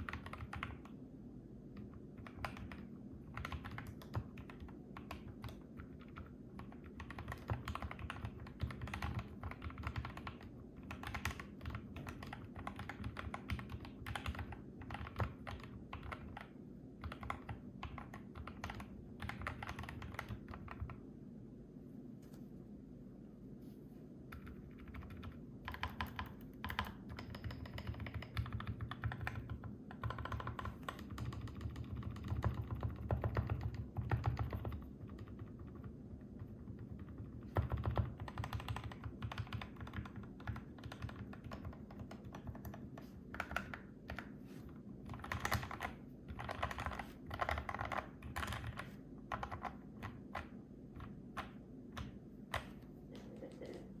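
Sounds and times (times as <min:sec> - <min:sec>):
mechanical keyboard typing: 0:00.0 - 0:01.0, 0:01.7 - 0:21.0, 0:24.3 - 0:44.4, 0:45.0 - 0:52.9.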